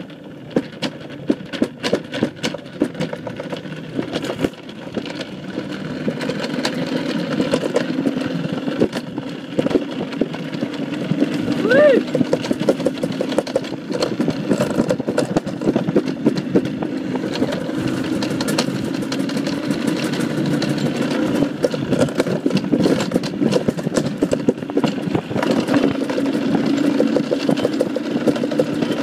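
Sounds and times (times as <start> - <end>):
sled rumbling down track: 0.0 - 29.0.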